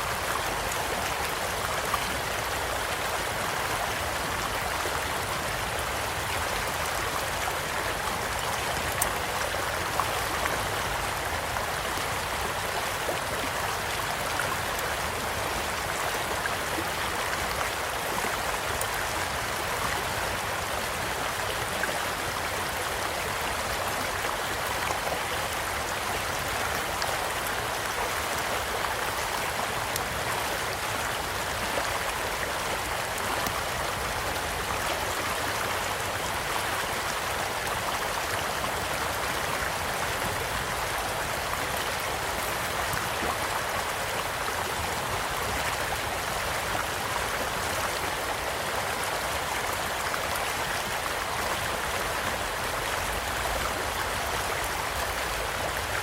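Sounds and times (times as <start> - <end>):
stream rushing and gurgling: 0.0 - 56.0.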